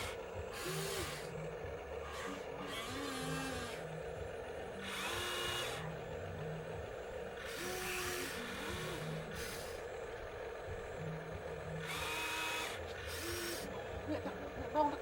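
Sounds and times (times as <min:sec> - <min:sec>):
electric motors whirring: 0:00.0 - 0:15.0.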